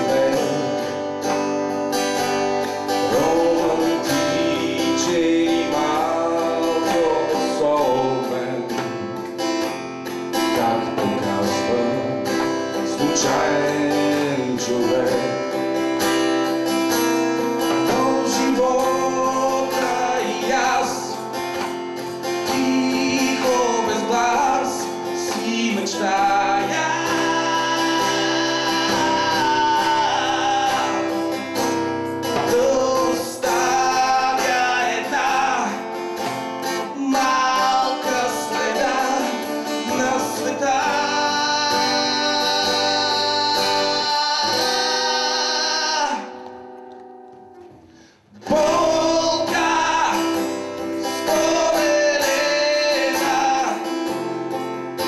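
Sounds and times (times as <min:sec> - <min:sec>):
person singing: 0:00.0 - 0:01.5, 0:02.8 - 0:09.4, 0:10.3 - 0:46.9, 0:48.4 - 0:54.3
acoustic guitar playing: 0:00.0 - 0:55.0.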